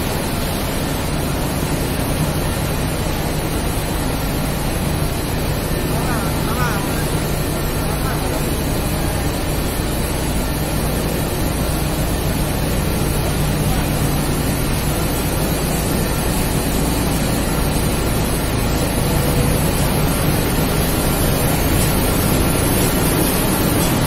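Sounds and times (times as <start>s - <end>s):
paper-making machine running: 0.0s - 24.0s.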